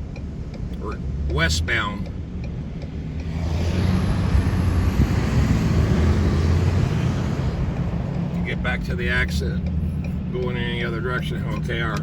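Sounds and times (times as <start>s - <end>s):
low engine hum: 0.0s - 12.0s
tyre and road noise: 0.0s - 12.0s.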